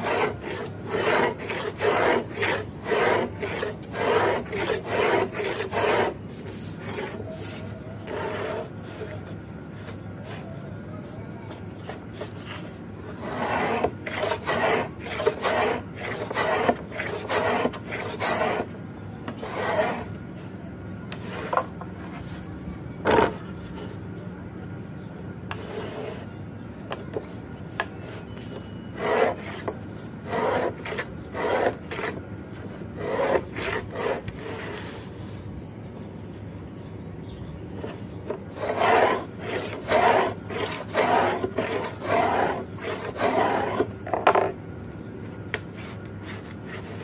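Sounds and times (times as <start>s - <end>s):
marking gauge scraping fibreboard: 0.0s - 10.5s, 11.5s - 20.2s, 21.1s - 22.4s, 25.5s - 35.4s, 37.8s - 44.6s, 45.6s - 47.0s.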